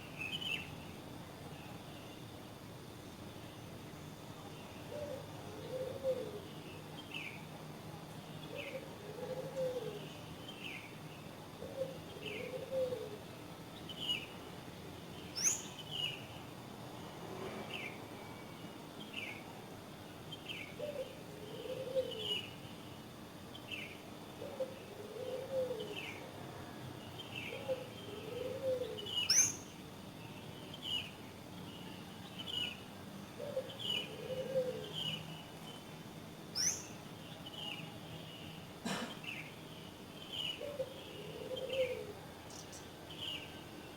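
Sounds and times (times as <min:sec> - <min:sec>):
faint background noise: 0:00.0 - 0:43.9.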